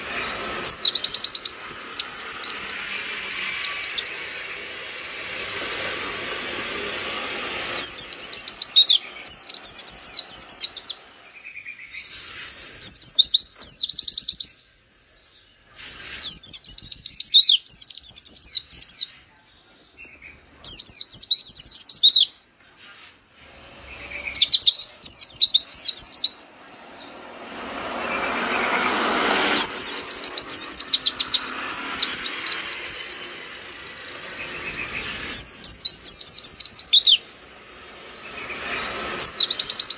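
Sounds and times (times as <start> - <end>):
bird singing high descending notes: 0.0 - 39.9
rushing background noise: 0.0 - 39.9.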